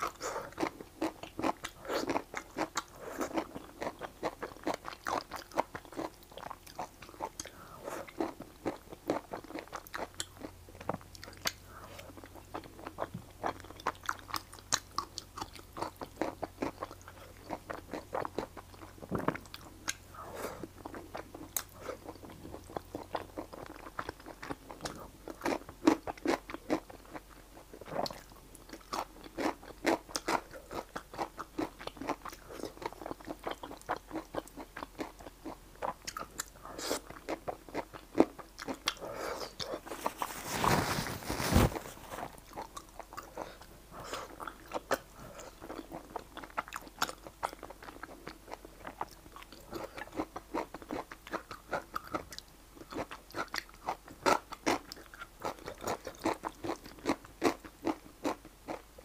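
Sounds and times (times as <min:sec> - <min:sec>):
chewing and slurping noodles: 0:00.0 - 0:58.9.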